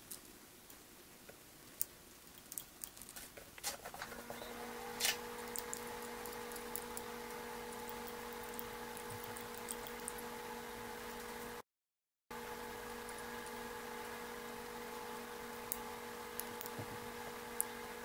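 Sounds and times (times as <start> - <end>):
steady low hum: 0.0 - 11.6, 12.3 - 18.0.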